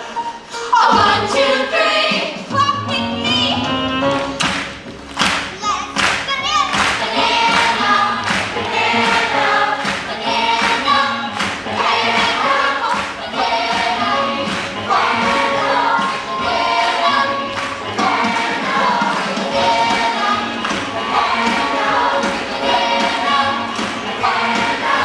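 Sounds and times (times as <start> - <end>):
chorus singing: 0.0 - 4.5, 6.7 - 25.0
backing track with steady beat: 2.2 - 25.0.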